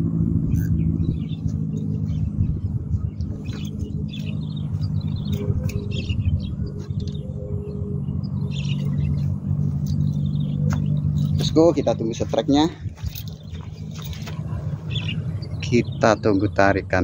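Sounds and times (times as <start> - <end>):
birds chirping: 0.0 - 17.0
low hum and rumble: 0.0 - 17.0.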